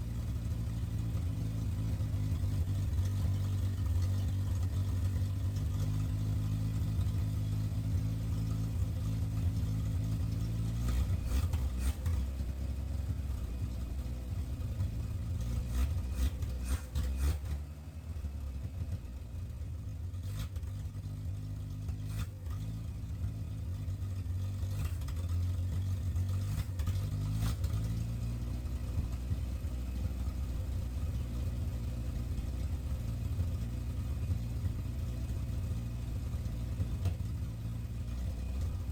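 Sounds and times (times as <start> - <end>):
engine idling roughly: 0.0 - 38.9.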